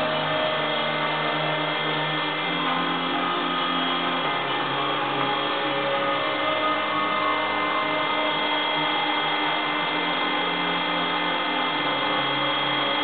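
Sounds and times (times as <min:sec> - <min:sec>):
hydraulic motor and pump whine: 0:00.0 - 0:13.0.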